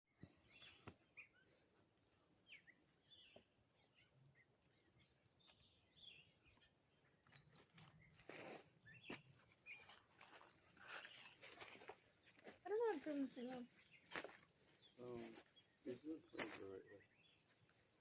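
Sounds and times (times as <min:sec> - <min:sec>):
birds chirping: 0:00.1 - 0:18.0.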